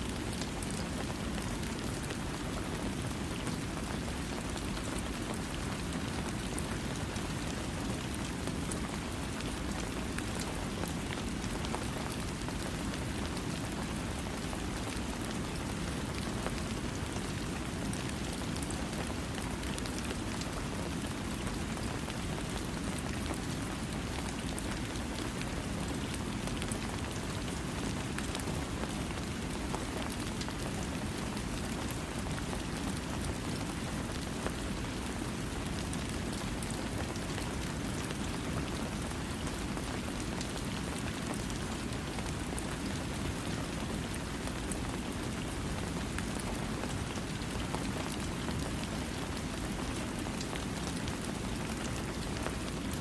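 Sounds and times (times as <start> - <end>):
steady rain pattering: 0.0 - 53.0.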